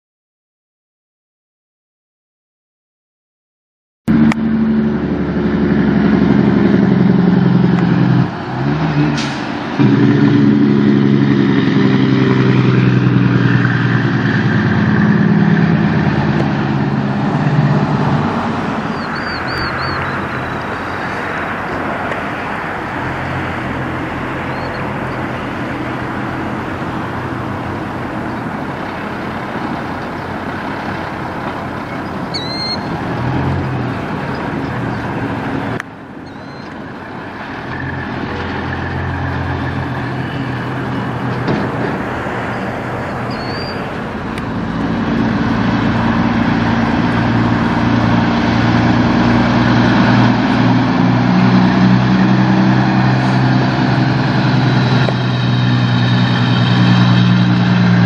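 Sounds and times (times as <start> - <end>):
diesel truck engine under load: 4.1 - 58.0.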